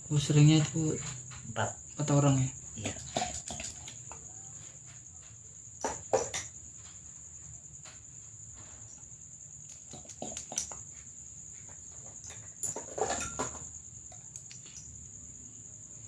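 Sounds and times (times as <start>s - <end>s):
high-pitched insect chirring: 0.0s - 16.0s.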